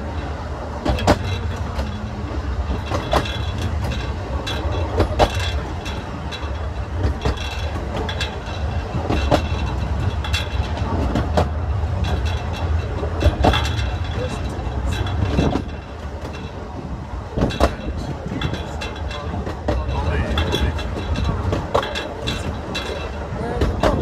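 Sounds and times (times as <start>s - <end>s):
train wheels rumbling on rail: 0.0s - 24.0s
wheels clanking over rail joints: 0.0s - 24.0s.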